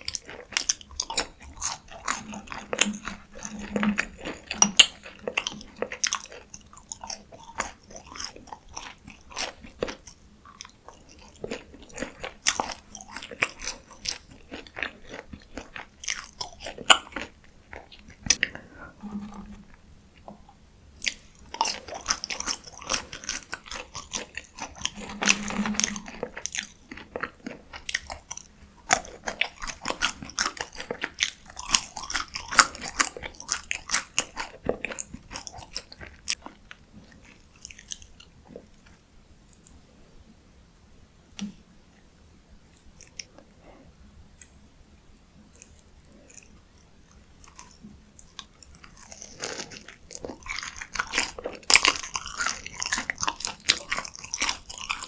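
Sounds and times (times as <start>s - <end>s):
chewing crunchy food: 0.0s - 40.0s, 42.7s - 55.0s.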